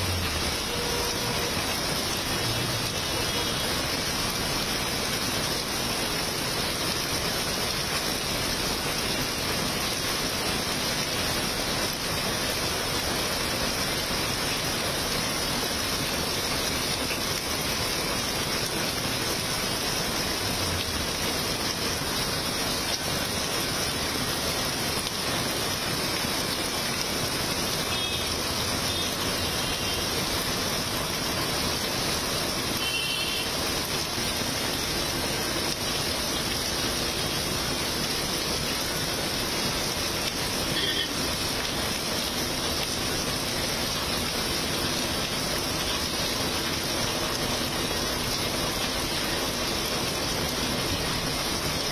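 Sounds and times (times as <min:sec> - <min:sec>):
heavy rain on a road: 0:00.0 - 0:51.9.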